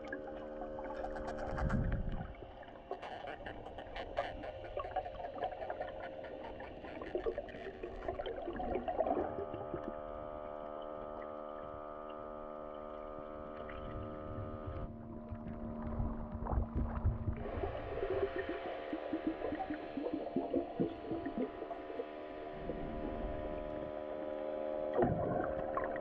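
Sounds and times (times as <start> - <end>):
steady droning hum: 0.0 - 26.0
underwater bubbling and gurgling: 0.0 - 26.0.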